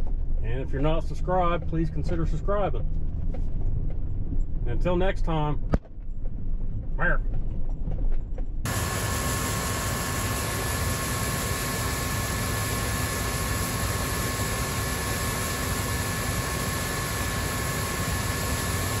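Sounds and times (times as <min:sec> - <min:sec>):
steady whining tones: 0:00.0 - 0:19.0
tractor running: 0:00.0 - 0:19.0.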